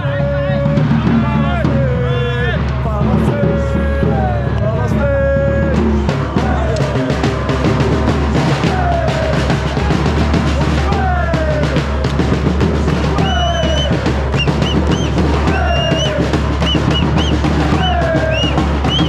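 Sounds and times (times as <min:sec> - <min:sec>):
celebration crowd: 0:00.0 - 0:19.0
drums beating fast rhythm: 0:00.0 - 0:19.0.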